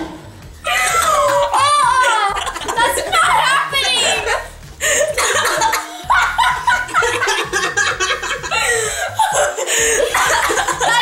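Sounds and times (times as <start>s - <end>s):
girls laughing and giggling: 0.6s - 11.0s.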